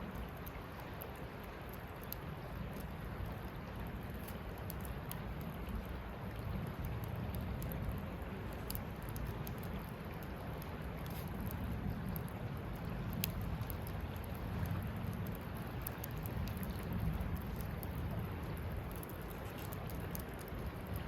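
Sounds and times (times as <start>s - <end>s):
campfire burning: 0.0s - 21.0s
fire crackles and pops: 0.0s - 21.0s.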